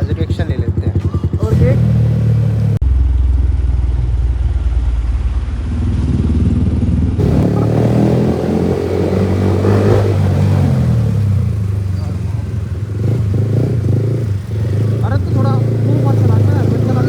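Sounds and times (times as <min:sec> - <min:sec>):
motorcycle revving: 0:00.0 - 0:17.0.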